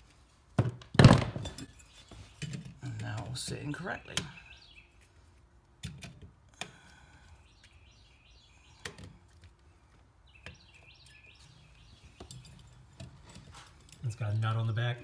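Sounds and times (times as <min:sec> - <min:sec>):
faint birdsong: 0:01.4 - 0:15.0.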